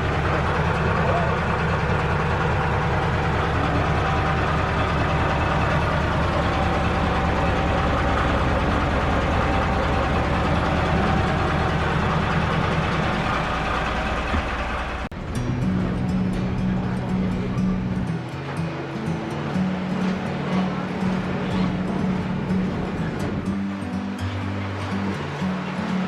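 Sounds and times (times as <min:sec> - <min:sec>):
diesel locomotive engine running: 0:00.0 - 0:26.0
music: 0:00.0 - 0:26.0.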